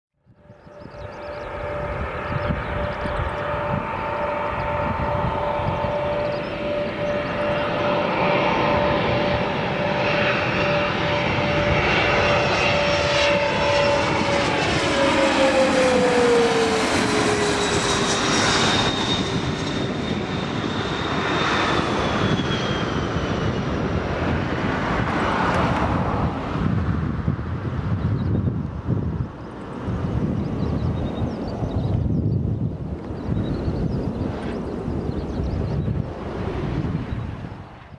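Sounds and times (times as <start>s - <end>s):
jet engine whine: 0.2s - 37.9s
rushing jet noise: 0.8s - 37.9s.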